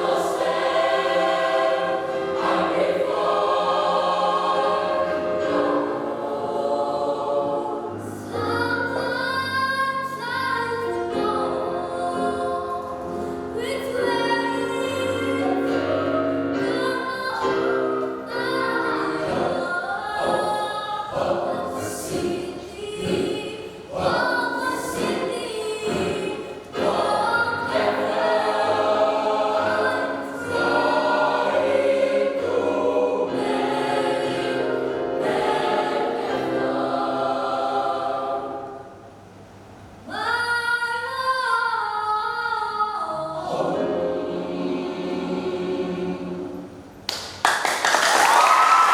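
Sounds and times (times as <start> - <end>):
choir singing in harmony: 0.0 - 39.6, 43.0 - 47.0.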